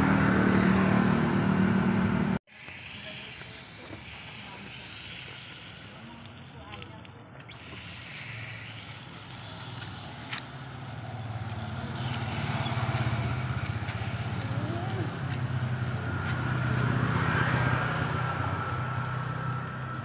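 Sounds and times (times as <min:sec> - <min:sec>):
vehicle engine humming: 0:00.0 - 0:20.0
steady hiss: 0:02.5 - 0:19.6.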